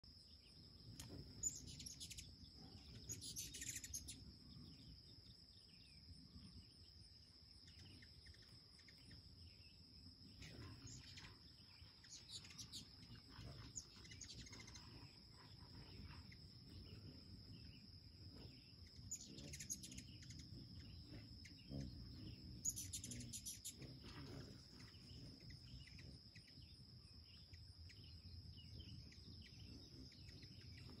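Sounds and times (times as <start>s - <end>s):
hummingbirds chittering: 0.3s - 31.0s
high-pitched insect drone: 0.6s - 31.0s.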